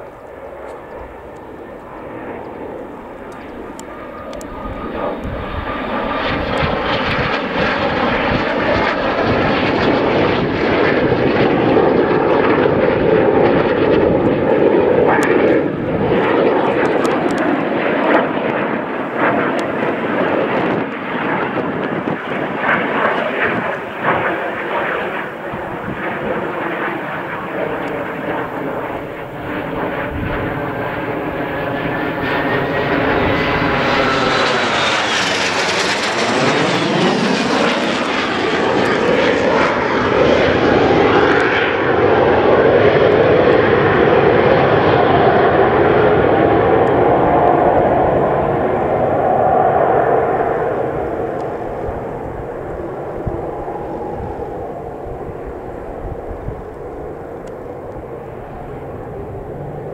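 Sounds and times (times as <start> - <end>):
jet aircraft flying over: 0.0 - 59.9.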